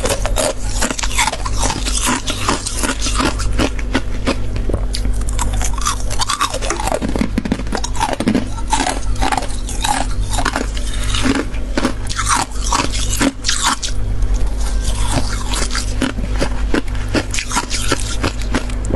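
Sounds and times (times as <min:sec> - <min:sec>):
crunching frost while chewing: 0:00.0 - 0:18.9
steady low hum: 0:00.0 - 0:18.9.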